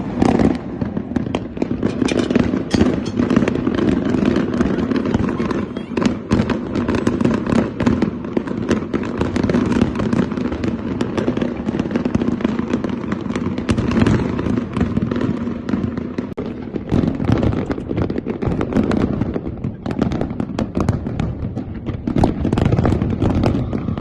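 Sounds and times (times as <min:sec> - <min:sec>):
fireworks popping and banging: 0:00.0 - 0:24.0.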